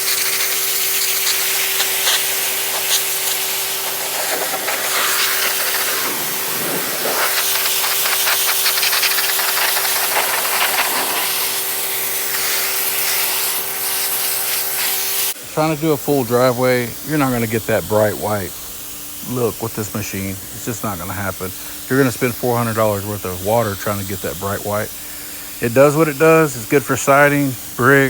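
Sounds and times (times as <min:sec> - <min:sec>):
electric motor and pump hum: 0:00.0 - 0:28.0
pressure washer jet hissing: 0:00.0 - 0:28.0.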